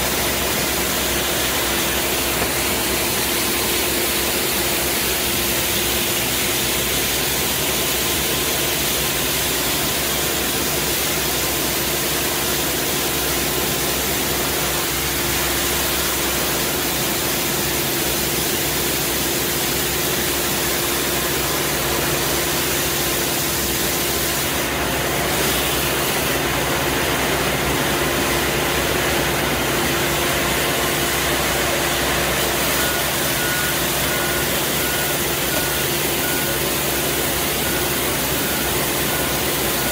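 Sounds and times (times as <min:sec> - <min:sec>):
street sweeper engine hum: 0:00.0 - 0:39.9.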